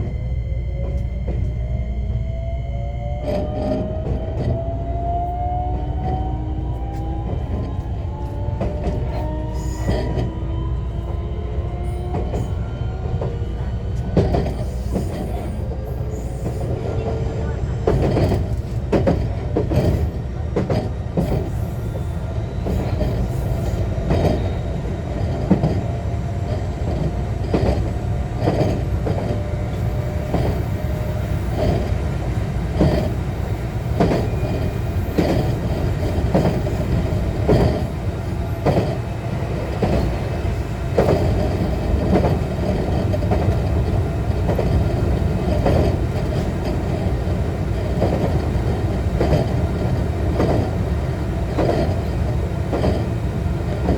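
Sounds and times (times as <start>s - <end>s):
train interior rumble: 0.0s - 53.9s.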